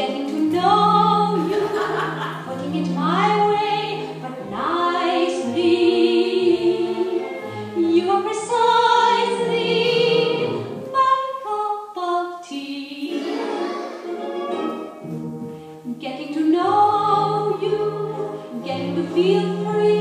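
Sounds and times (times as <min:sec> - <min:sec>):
musical theatre song over loudspeaker: 0:00.0 - 0:20.0.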